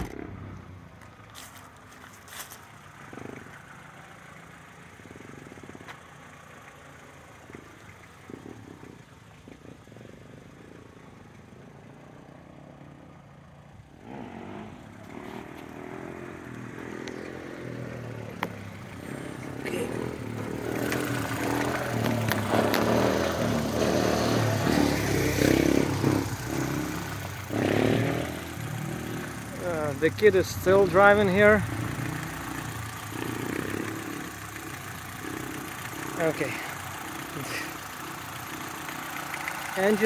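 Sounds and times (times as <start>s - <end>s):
car engine idling: 0.0s - 40.0s
small motor vehicle approaching: 0.0s - 40.0s.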